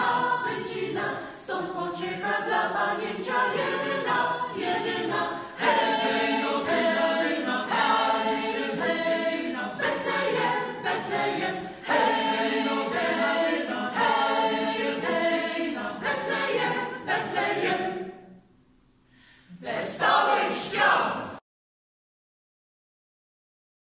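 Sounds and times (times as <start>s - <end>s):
mixed choir singing a cappella: 0.0s - 18.5s, 19.4s - 21.4s.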